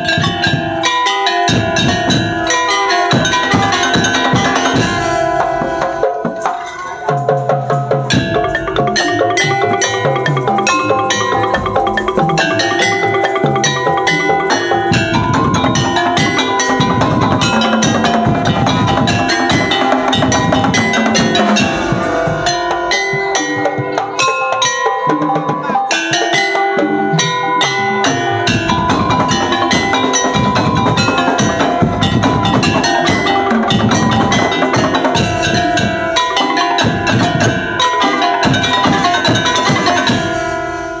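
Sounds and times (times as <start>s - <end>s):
ringing tuned percussion: 0.0s - 41.0s
wooden slit drums and drums: 0.0s - 41.0s.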